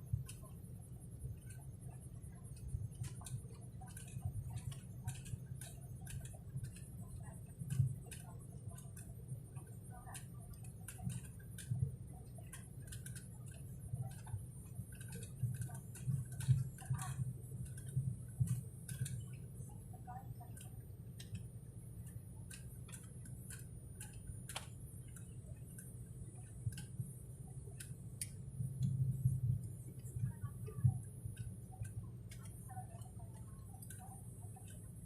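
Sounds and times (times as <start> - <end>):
airliner cabin drone: 0.0 - 35.0
irregular clicks and ticks: 0.0 - 35.0.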